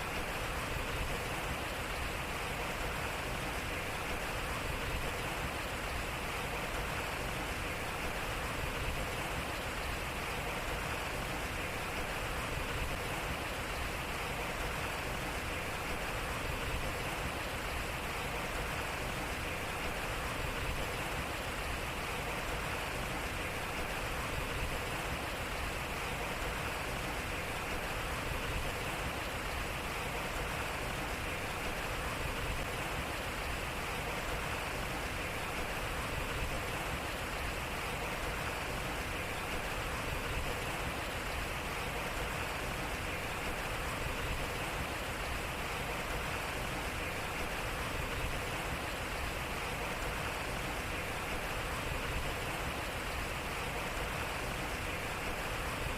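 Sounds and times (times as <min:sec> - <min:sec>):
water splashing at a waterwheel: 0:00.0 - 0:55.9.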